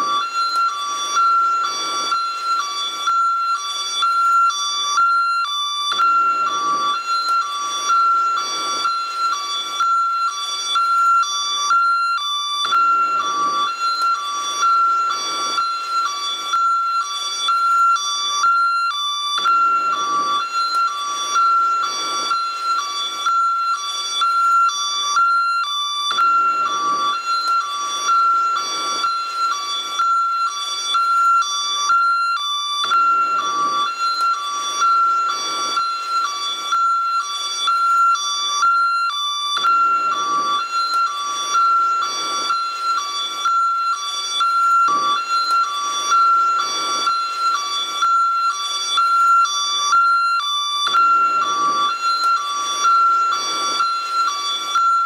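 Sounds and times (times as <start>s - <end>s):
ambulance hi-lo siren: 0.0s - 55.0s.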